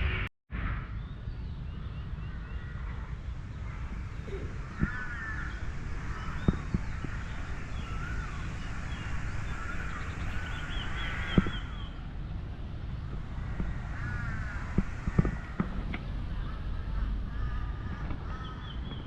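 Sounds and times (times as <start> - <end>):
steady low rumble: 0.0 - 19.0
birds chirping: 1.0 - 19.0.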